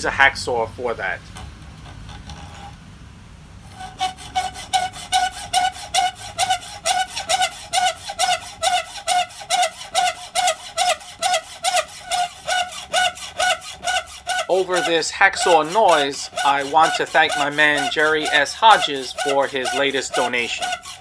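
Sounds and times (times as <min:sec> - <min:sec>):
hacksaw cutting steel: 0:03.7 - 0:21.0.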